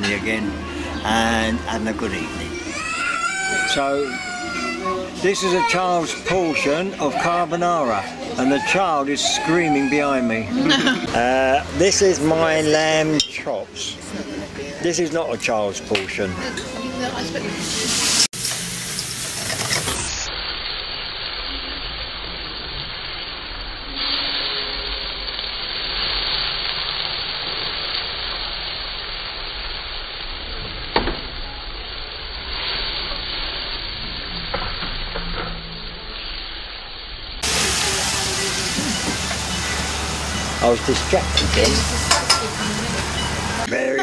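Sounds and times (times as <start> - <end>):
food sizzling in a frying pan: 0.0 - 44.0.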